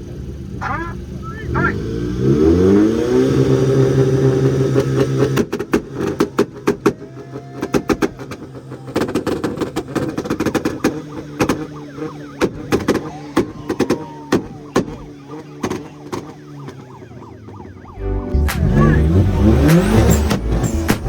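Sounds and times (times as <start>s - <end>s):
car engine revving: 0.0s - 21.0s
exhaust pops and bangs: 4.1s - 21.0s.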